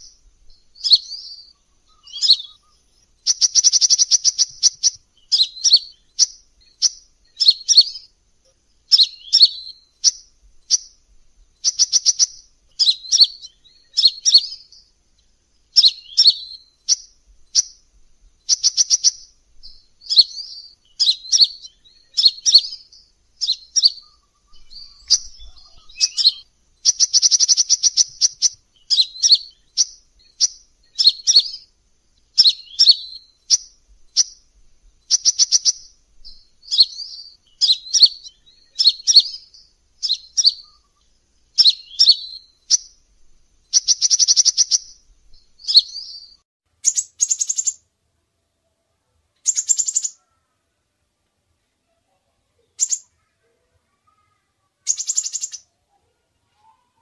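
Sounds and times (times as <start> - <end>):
bird chips and twittering: 0.0 - 17.8, 18.4 - 43.0, 43.6 - 47.8, 49.4 - 50.3, 52.6 - 57.0
bird trills: 0.0 - 43.0, 43.7 - 47.8, 49.4 - 50.6, 51.8 - 57.0.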